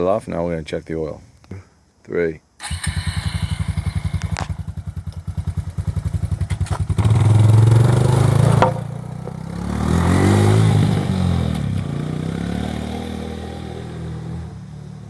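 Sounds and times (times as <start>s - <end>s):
small engine idling and revving: 2.6s - 15.0s.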